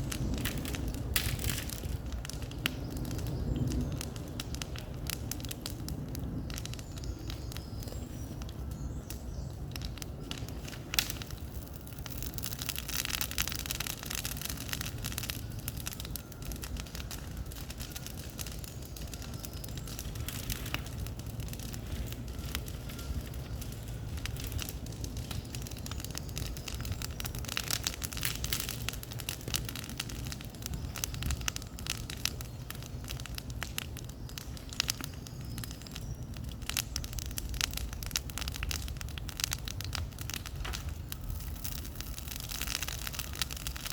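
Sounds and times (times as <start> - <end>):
bonfire crackling and popping: 0.0 - 43.9.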